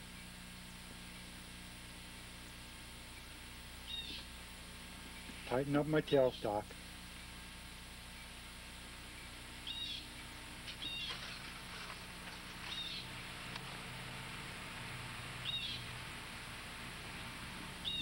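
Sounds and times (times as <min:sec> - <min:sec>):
faint hum and hiss: 0:00.0 - 0:18.0.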